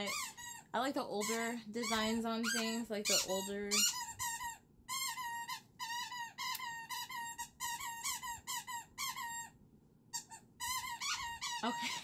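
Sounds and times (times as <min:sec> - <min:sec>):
puppy whining: 0:01.3 - 0:09.6, 0:10.2 - 0:12.0.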